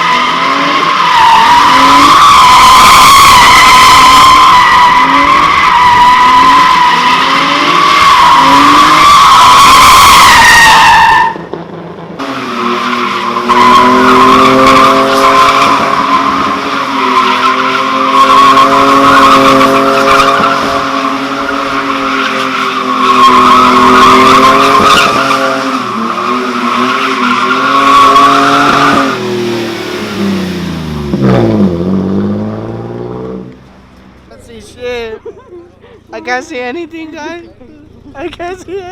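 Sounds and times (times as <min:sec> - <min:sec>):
car engine at high revs: 0:00.0 - 0:34.3.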